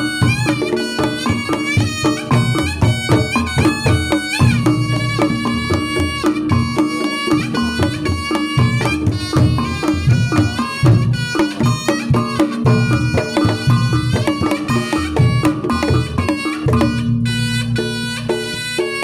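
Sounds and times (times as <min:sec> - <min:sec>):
fast hand drumming: 0:00.0 - 0:19.0
percussion: 0:00.0 - 0:19.0
shawm melody: 0:00.0 - 0:19.0.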